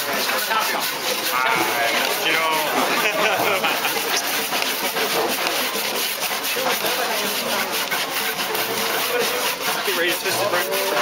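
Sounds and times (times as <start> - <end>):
hand saw cutting a log: 0.0 - 11.0.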